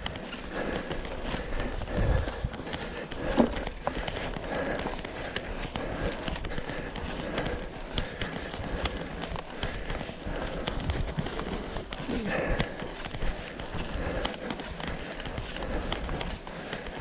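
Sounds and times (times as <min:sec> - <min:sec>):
bike rattling over bumps: 0:00.0 - 0:17.0
bike tyres rumbling on dirt: 0:00.0 - 0:17.0.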